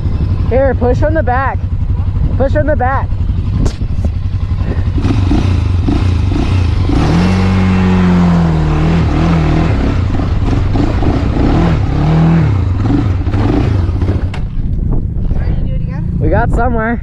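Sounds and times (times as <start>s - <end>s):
quad engine revving under load: 0.0s - 15.4s.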